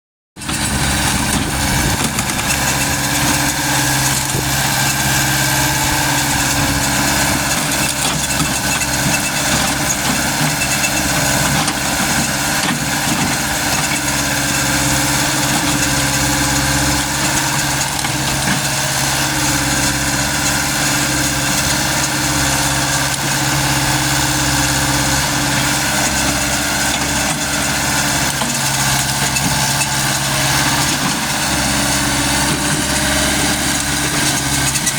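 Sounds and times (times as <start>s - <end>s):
diesel engine running steadily: 0.4s - 34.9s.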